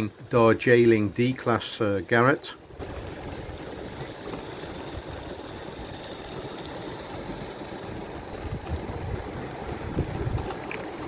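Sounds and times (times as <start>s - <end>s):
model steam locomotive running: 0.0s - 11.0s.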